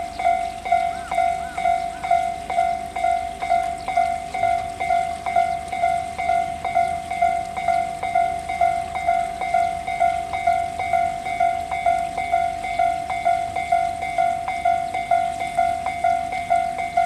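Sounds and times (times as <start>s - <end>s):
level crossing warning bell: 0.0s - 17.0s.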